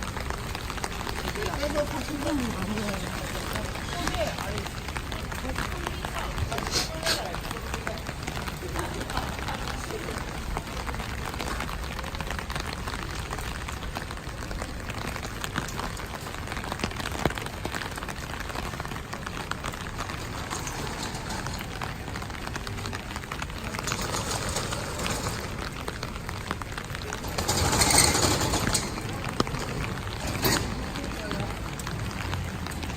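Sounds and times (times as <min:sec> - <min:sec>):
steady rainfall patter: 0:00.0 - 0:32.9.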